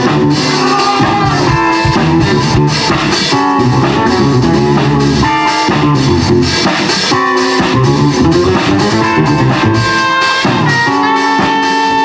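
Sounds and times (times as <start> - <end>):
bass guitar: 0.0 - 12.0
drum kit: 0.0 - 12.0
electric guitar lines: 0.0 - 12.0.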